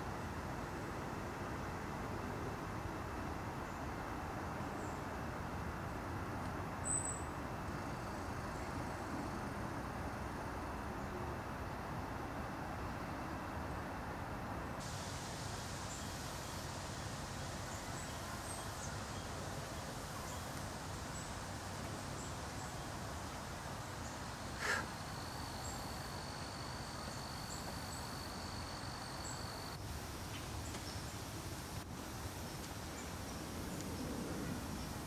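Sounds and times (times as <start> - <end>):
outdoor background hiss: 0.0 - 35.0.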